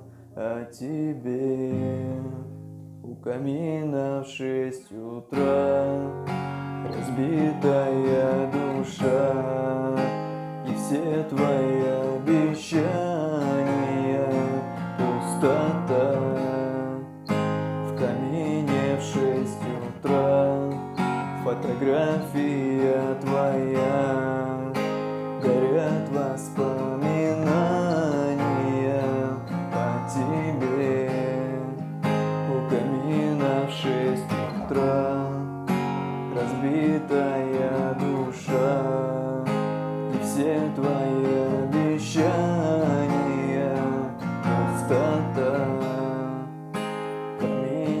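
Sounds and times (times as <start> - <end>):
acoustic guitar strumming: 0.0 - 48.0
person singing wordless melody: 0.0 - 48.0.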